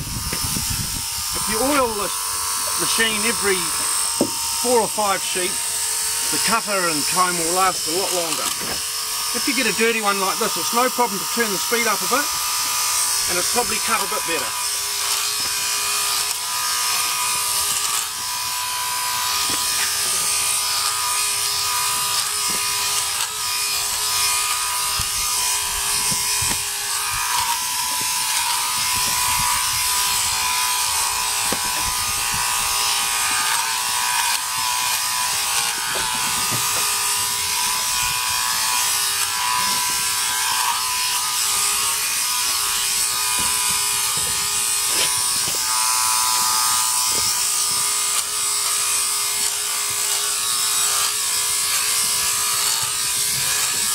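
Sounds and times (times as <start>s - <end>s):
electric sheep clipper whining: 0.0s - 53.9s
cutter chattering: 0.2s - 53.9s.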